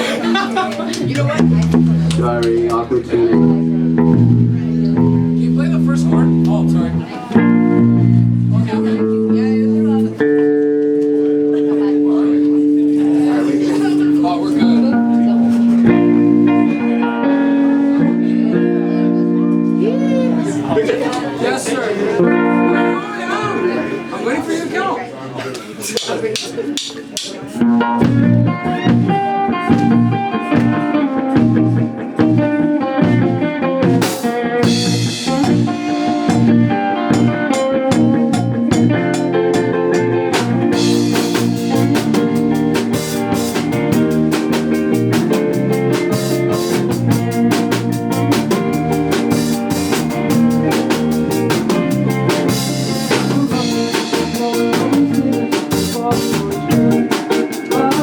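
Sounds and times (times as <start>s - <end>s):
live rock band playing: 0.0s - 24.8s, 26.7s - 58.0s.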